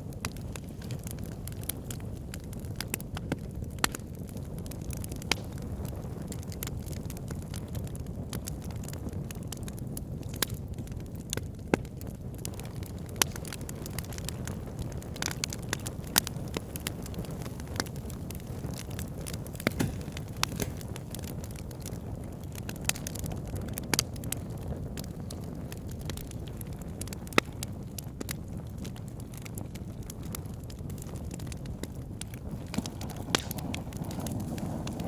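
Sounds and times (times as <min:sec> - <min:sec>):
fire crackles and pops: 0:00.0 - 0:35.0
wood fire burning: 0:00.0 - 0:35.0.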